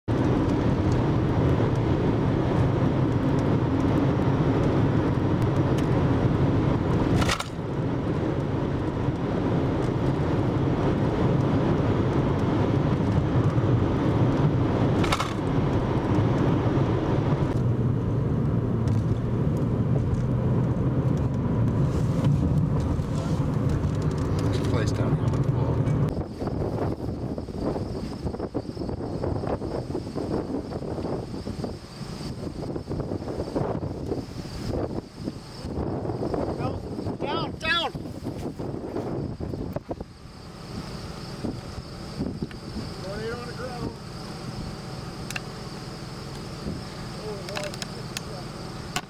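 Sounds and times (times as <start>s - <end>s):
road and engine noise in car: 0.0s - 49.0s.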